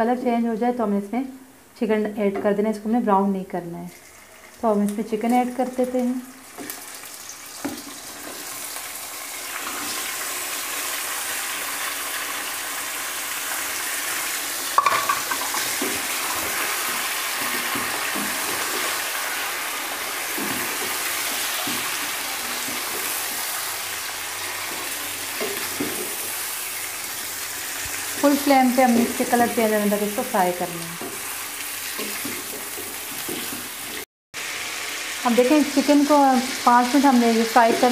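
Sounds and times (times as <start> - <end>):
chicken sizzling in hot oil: 4.0 - 37.9.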